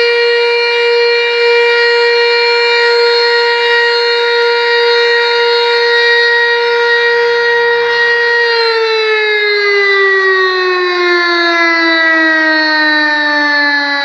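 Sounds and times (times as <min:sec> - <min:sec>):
fire station siren steady tone: 0:00.0 - 0:14.0.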